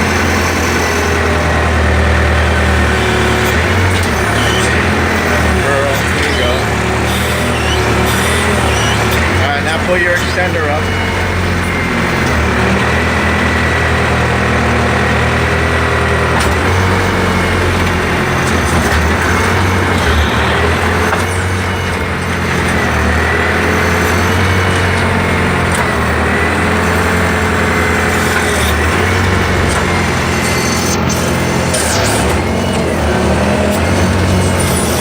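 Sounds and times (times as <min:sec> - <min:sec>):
diesel engine running under load: 0:00.0 - 0:35.0
hydraulic whine: 0:00.0 - 0:35.0.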